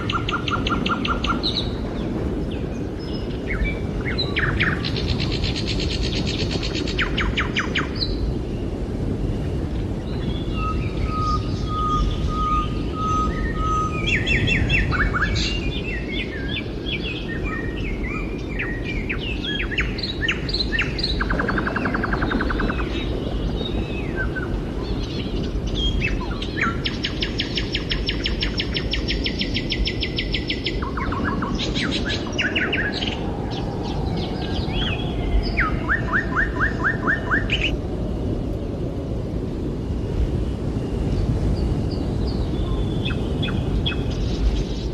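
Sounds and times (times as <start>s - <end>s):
songbirds chirping and singing: 0.0s - 38.2s, 41.0s - 44.9s.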